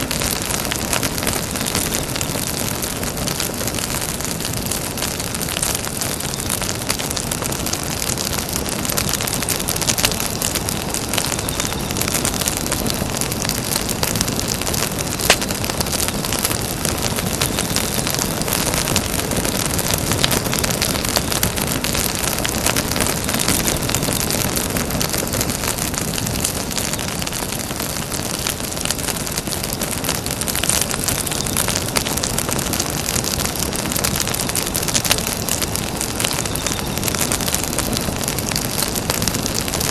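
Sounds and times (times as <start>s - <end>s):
campfire crackling: 0.0s - 39.9s
wood popping in fire: 0.0s - 39.9s.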